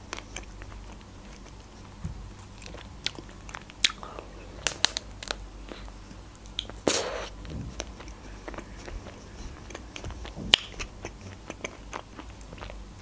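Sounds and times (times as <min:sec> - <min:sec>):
chewing with mouth clicks: 0:00.0 - 0:13.0.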